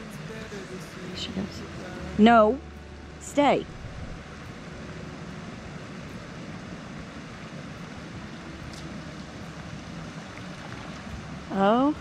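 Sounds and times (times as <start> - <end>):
flowing water: 0.0 - 12.0
wind: 0.0 - 12.0.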